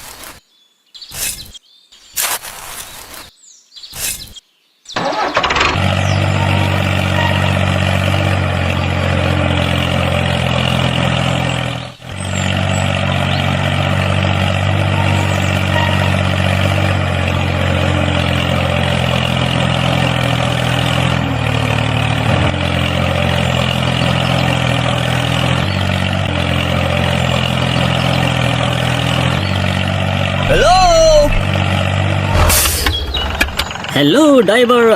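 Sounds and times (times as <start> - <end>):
truck engine running: 5.0 - 34.9.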